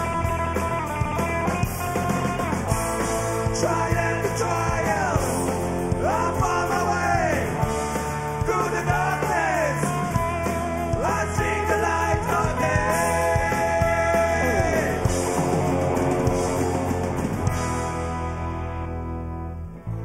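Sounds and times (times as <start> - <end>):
electric guitar lead: 0.0 - 20.0
rock band playing: 0.0 - 20.0.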